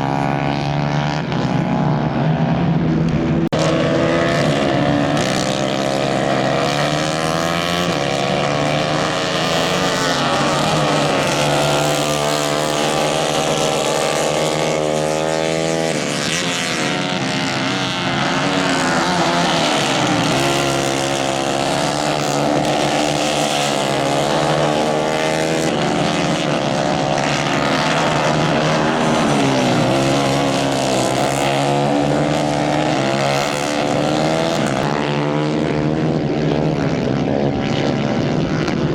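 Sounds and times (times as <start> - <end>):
racing engines revving: 0.0 - 38.9.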